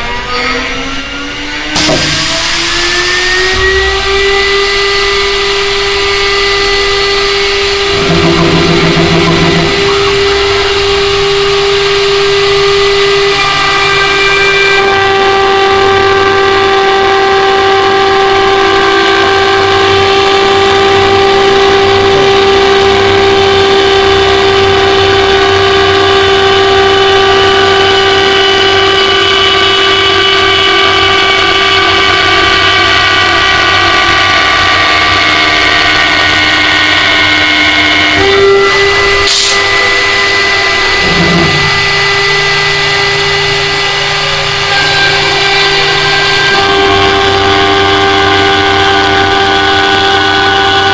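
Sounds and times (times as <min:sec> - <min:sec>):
lathe motor whine: 0:00.0 - 0:50.9
machining noise: 0:00.0 - 0:50.9.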